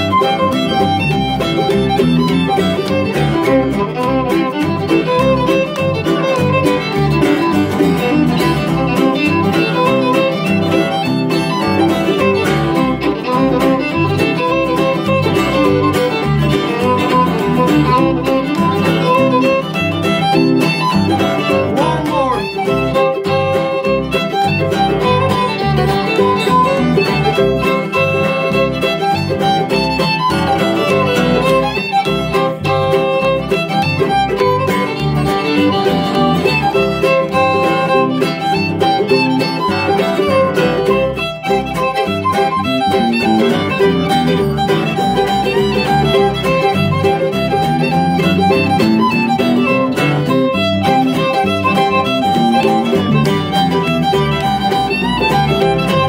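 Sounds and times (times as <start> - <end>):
acoustic guitar: 0.0 - 56.0
fiddle: 0.0 - 56.0.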